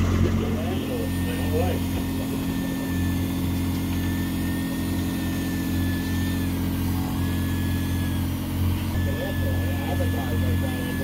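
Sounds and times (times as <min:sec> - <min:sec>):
boat engine humming: 0:00.0 - 0:11.0
thin high whine: 0:00.0 - 0:11.0.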